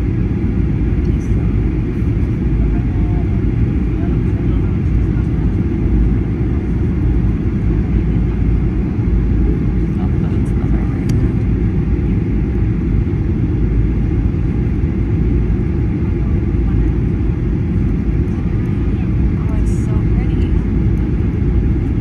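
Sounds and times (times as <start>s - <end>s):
airflow over fuselage: 0.0s - 22.0s
deep rumble of jet engines: 0.0s - 22.0s.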